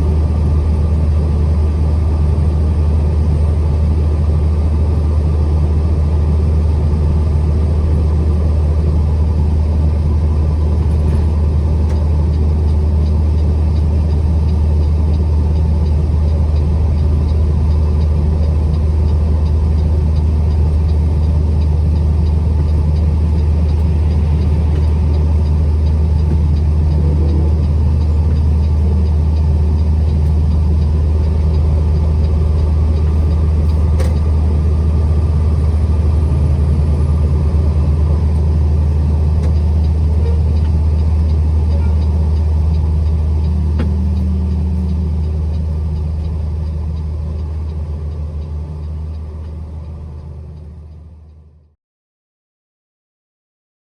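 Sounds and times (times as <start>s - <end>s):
truck engine drone: 0.0s - 51.7s
road rumble: 0.0s - 51.8s.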